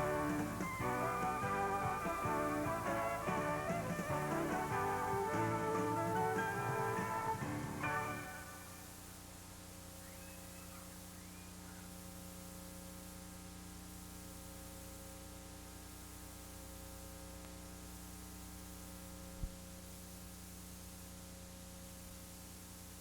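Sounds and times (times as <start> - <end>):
electrical mains hum: 0.0 - 23.0
recording hiss: 0.0 - 23.0.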